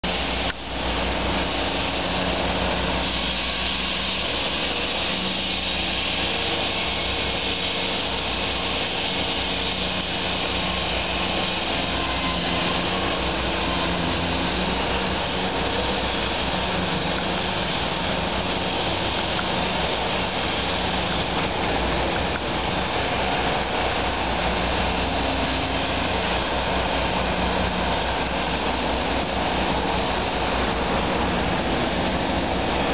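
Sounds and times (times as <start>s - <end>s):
construction machinery engines running: 0.0s - 32.9s
street traffic din: 0.0s - 32.9s.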